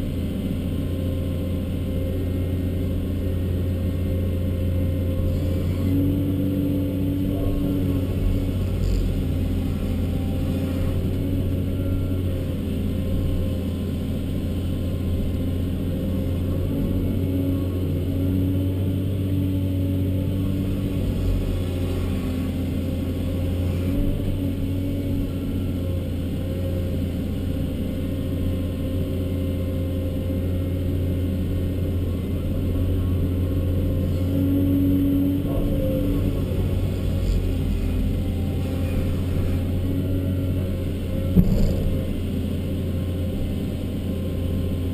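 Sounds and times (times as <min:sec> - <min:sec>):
excavator diesel engine and hydraulics: 0:00.0 - 0:44.9.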